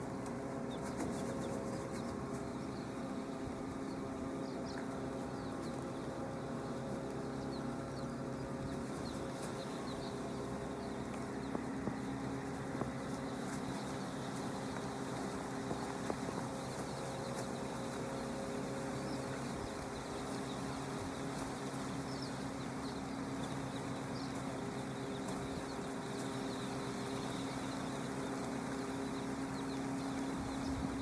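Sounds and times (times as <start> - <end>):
birds chirping: 0.0 - 31.0
mechanical hum: 0.0 - 31.0.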